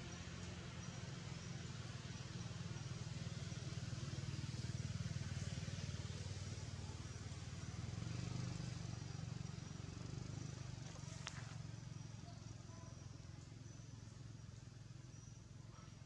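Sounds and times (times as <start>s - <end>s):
engine running: 0.0s - 15.6s.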